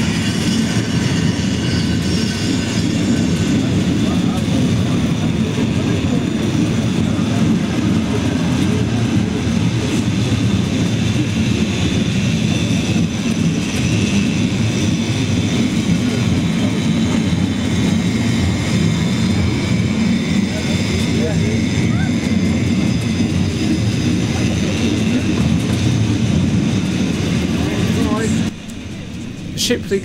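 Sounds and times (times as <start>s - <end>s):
funicular car rumbling: 0.0s - 30.0s.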